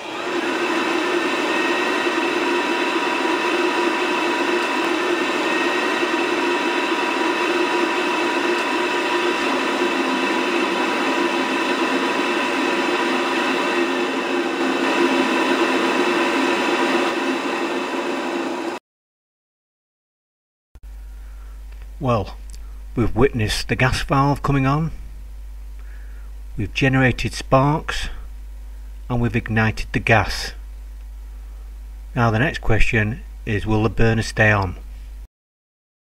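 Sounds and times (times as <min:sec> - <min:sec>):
boiler fan and burner whirring: 0:00.0 - 0:18.8, 0:20.9 - 0:35.2.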